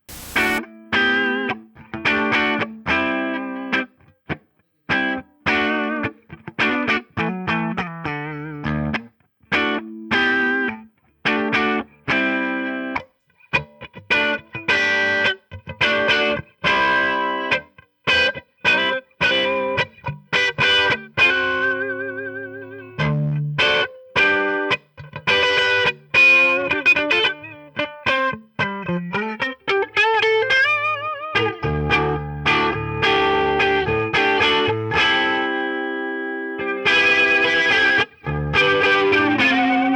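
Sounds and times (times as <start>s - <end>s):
electric guitar with flanger: 0.0s - 39.9s.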